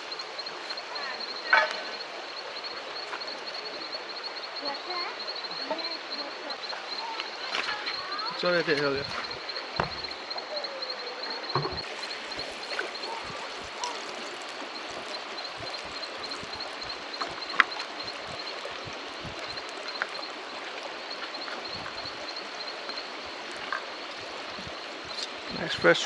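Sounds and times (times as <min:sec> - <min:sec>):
high pulsing chirp: 0:00.0 - 0:26.0
running water rushing: 0:00.0 - 0:26.0.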